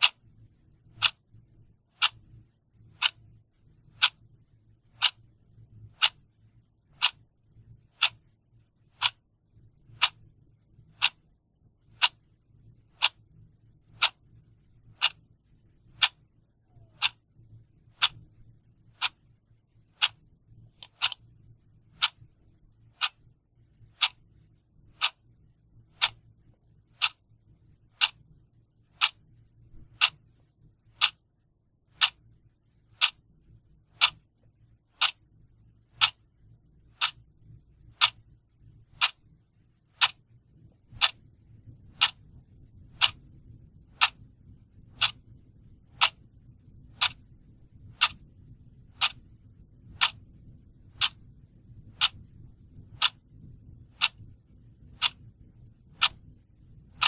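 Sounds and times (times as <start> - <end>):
mechanical clock ticking: 0.0 - 6.3, 6.9 - 8.3, 8.9 - 31.3, 31.9 - 32.3, 32.9 - 33.3, 33.9 - 34.3, 34.9 - 36.3, 36.9 - 57.0.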